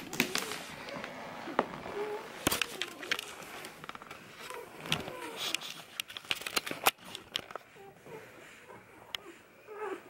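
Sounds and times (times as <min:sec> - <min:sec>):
camera rubbing against fur: 0:00.1 - 0:09.4.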